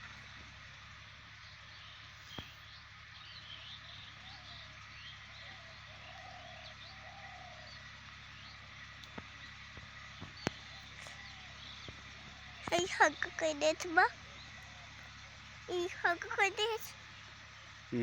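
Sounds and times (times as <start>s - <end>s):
birds chirping: 0.0s - 18.0s
lower bird calls: 0.0s - 18.0s.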